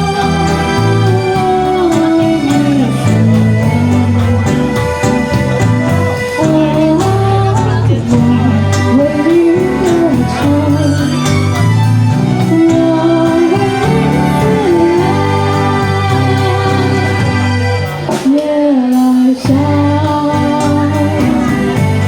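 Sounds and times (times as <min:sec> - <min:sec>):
melody with vibrato: 0:00.0 - 0:18.2
live band playing slow pop song: 0:00.0 - 0:22.0.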